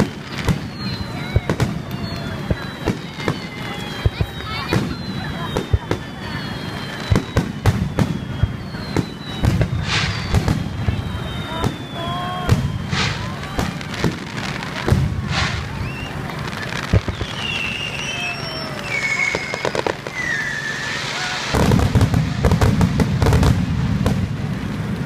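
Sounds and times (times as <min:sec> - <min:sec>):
crackling fireworks: 0:00.0 - 0:25.0
fireworks bursting: 0:00.0 - 0:25.0.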